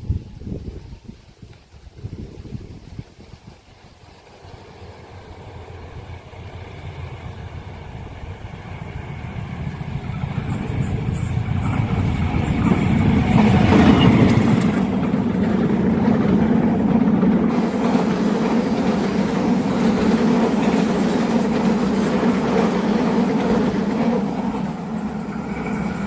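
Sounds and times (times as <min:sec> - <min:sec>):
diesel locomotive engine rumble: 0:03.6 - 0:26.0.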